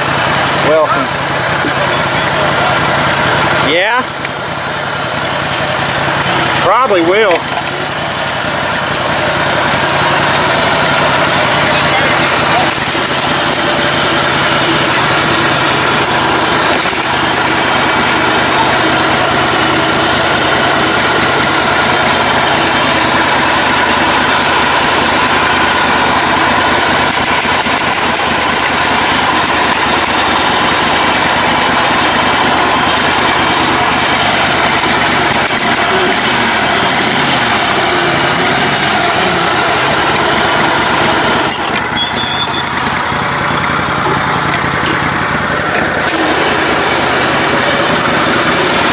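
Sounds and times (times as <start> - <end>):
lawn tractor engine running: 0.0 - 48.9.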